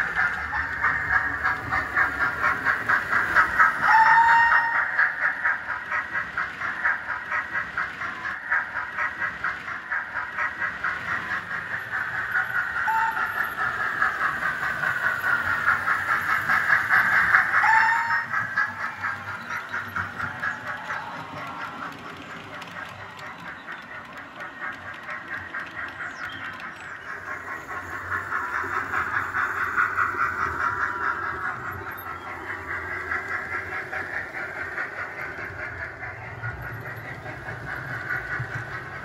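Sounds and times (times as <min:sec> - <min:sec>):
model train whirring: 0:00.0 - 0:39.0
train clatter on track: 0:00.0 - 0:39.0.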